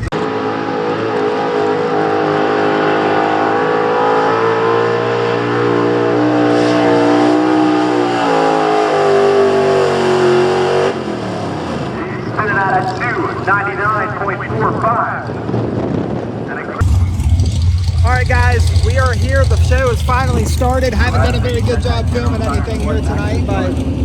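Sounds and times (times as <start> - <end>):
truck engine at full throttle: 0.0 - 13.6, 16.8 - 24.0.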